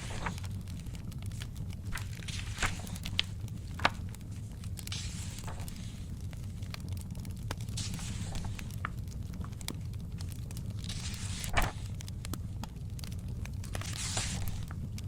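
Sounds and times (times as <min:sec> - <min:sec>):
book pages turning: 0:00.0 - 0:12.7, 0:13.6 - 0:14.9
fireplace crackling: 0:00.0 - 0:15.0
sharp fire snap: 0:00.0 - 0:15.0.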